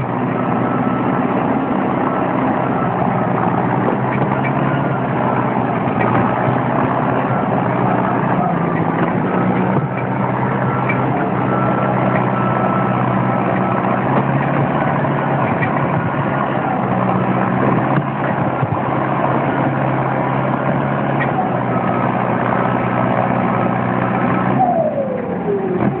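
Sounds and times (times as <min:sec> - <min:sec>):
diesel engine at high revs: 0:00.0 - 0:26.0.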